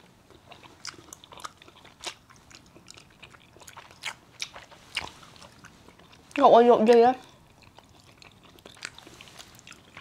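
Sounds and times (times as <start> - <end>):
person chewing chocolate: 0.0 - 10.0.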